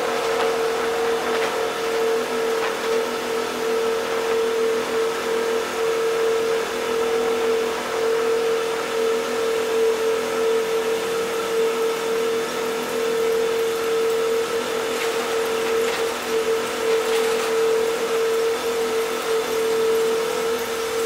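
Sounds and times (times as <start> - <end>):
ship machinery drone: 0.0 - 21.0.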